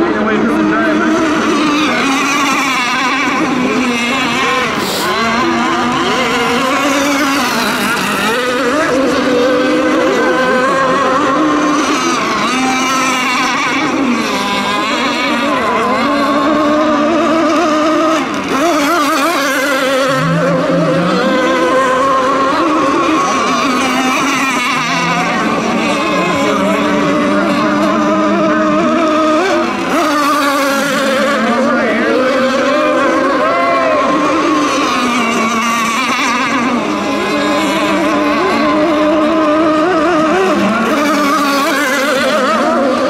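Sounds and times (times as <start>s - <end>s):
model boat motors whining: 0.0s - 43.0s.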